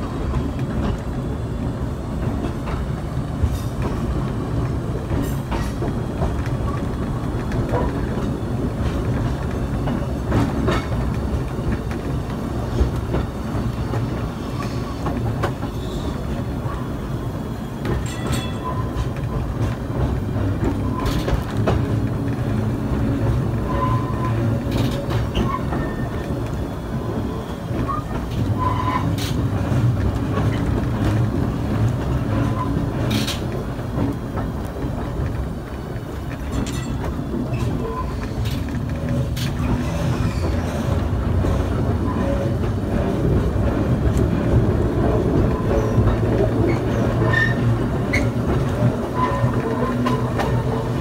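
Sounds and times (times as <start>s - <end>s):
streetcar wheels rumbling: 0.0s - 51.0s
wheels clicking over rail joints: 0.2s - 16.9s, 17.8s - 51.0s.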